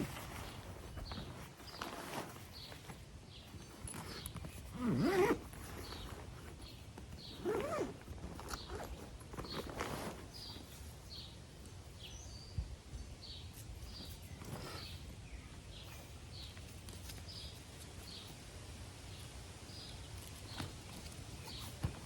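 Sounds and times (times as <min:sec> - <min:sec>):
small bird chirping: 0:00.4 - 0:18.4.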